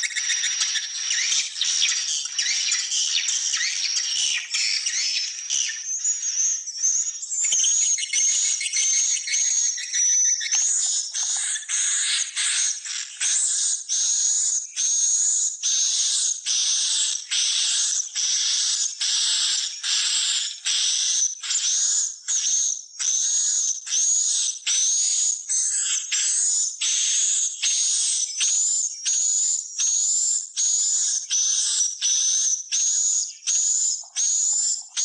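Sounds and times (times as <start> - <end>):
chirps with high whistling tone: 0.0 - 35.0.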